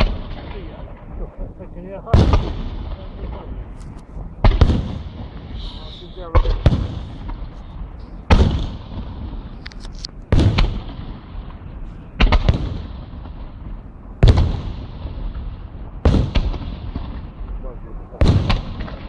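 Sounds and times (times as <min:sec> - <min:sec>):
firework bangs with rumbling echo: 0:00.0 - 0:09.6, 0:10.2 - 0:19.0
firework crackles: 0:00.0 - 0:19.0.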